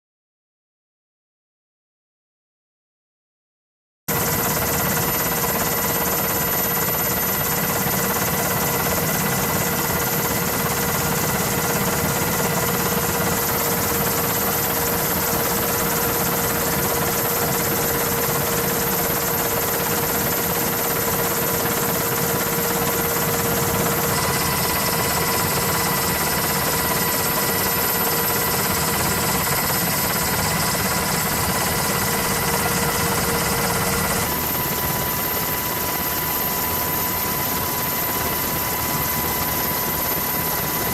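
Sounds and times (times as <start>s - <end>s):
aircraft engine roar with whine: 4.1s - 40.9s.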